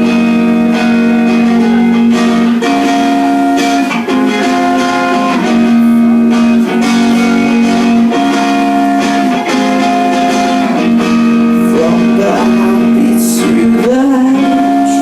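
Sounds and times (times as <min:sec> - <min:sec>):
guitar chords: 0:00.0 - 0:15.0.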